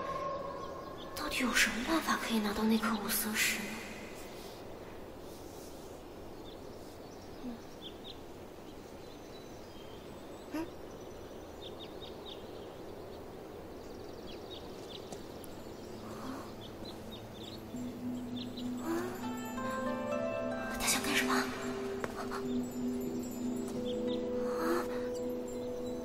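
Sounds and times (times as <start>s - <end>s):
small birds chirping: 0.0s - 26.0s
steady low hiss: 0.0s - 26.0s.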